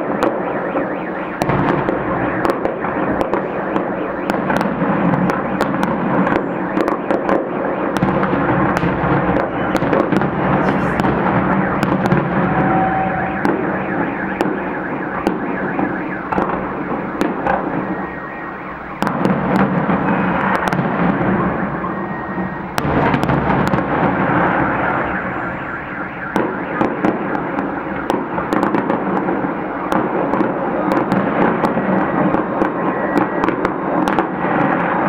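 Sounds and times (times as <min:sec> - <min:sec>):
fireworks bursting: 0:00.0 - 0:35.0
sharp cracks of fireworks: 0:00.0 - 0:35.0.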